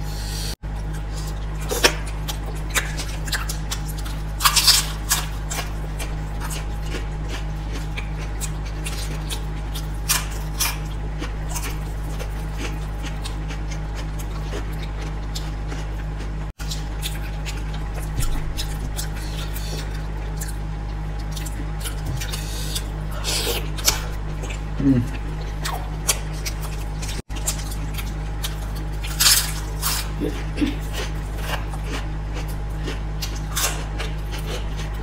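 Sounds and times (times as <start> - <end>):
steady low hum: 0.0 - 35.0
wet chewing and smacking: 0.7 - 35.0.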